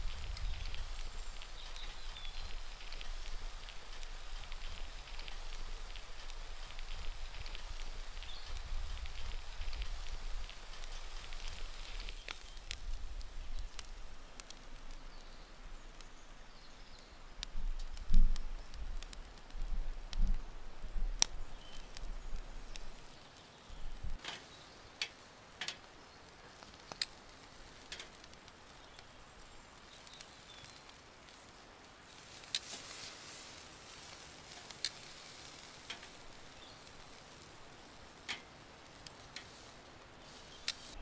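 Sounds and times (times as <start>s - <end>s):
rain hissing: 0.0s - 41.0s.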